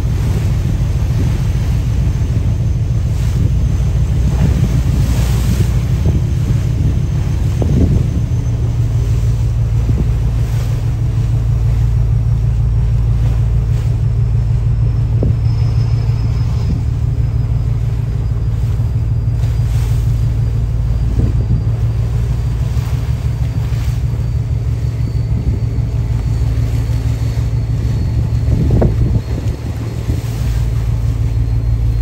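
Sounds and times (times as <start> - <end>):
boat engine humming: 0.0 - 32.0
water splashing: 0.0 - 32.0
wind buffeting microphone: 0.0 - 32.0.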